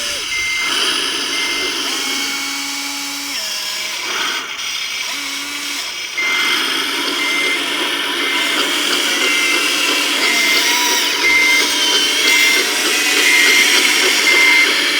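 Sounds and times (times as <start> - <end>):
reversing beeper: 0.0 - 3.5, 5.2 - 14.9
electric motor whirring: 0.0 - 14.9
gear whine: 0.0 - 14.9.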